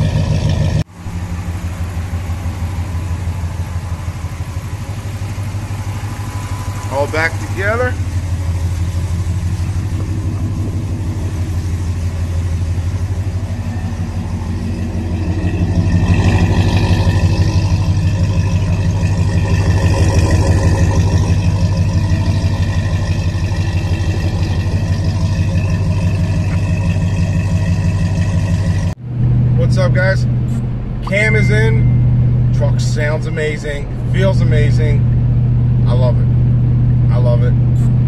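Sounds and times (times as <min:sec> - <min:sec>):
engine idling: 0:00.0 - 0:38.0.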